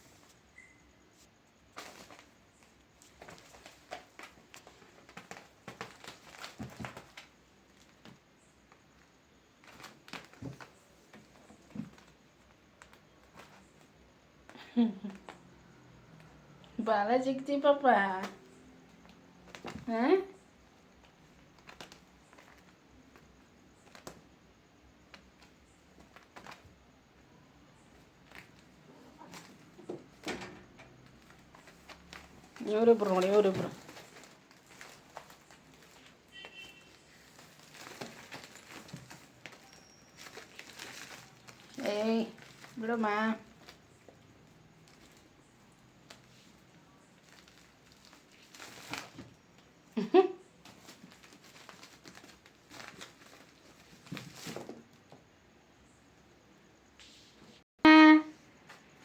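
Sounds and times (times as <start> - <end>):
rustling and scratching: 0.0 - 16.4, 18.1 - 55.4.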